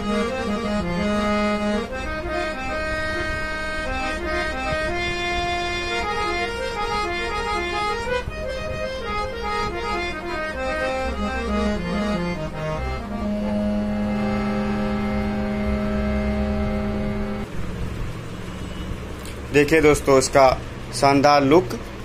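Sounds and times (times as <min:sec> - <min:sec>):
harmonium melody over drone: 0:00.0 - 0:17.6.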